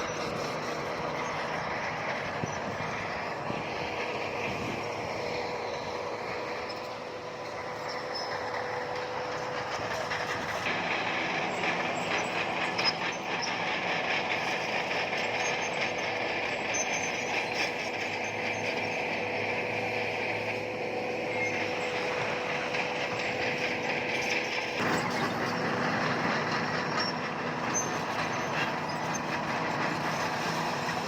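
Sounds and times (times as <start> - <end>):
bulldozer running: 0.0 - 31.0
crawler tracks rattling: 0.0 - 31.0.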